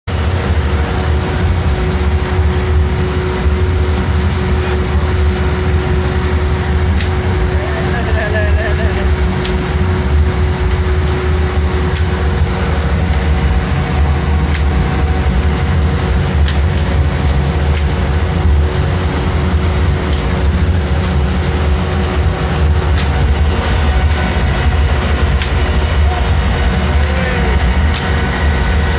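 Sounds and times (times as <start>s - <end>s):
boat engine rumbling: 0.0s - 28.9s.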